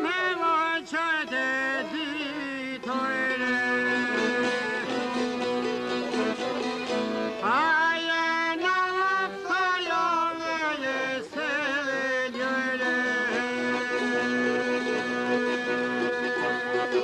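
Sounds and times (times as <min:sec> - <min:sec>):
man singing a folk ballad: 0:00.0 - 0:05.9, 0:07.4 - 0:17.0
plucked string accompaniment: 0:00.0 - 0:17.0.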